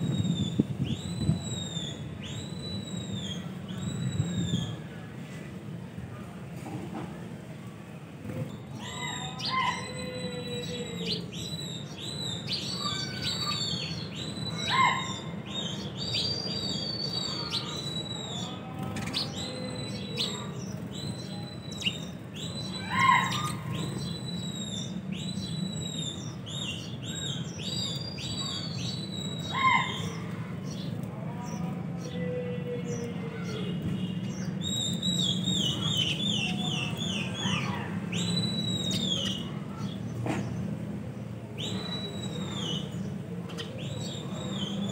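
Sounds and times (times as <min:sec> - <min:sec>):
sparrows chirping: 0:00.0 - 0:04.8, 0:08.4 - 0:44.9.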